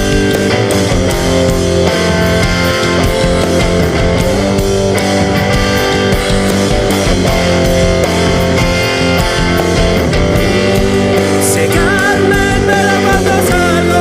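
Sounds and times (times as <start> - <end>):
rock music with guitar: 0.0 - 14.0
wavering high melody: 0.0 - 14.0.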